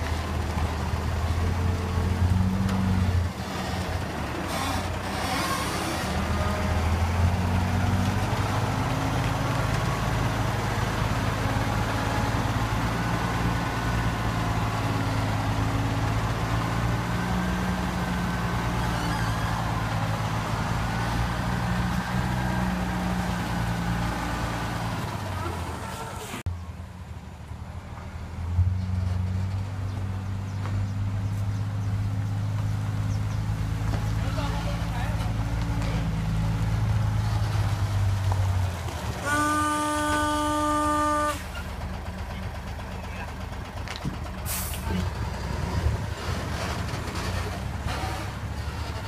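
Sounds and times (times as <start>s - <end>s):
truck diesel engine running: 0.0s - 26.5s, 29.9s - 49.0s.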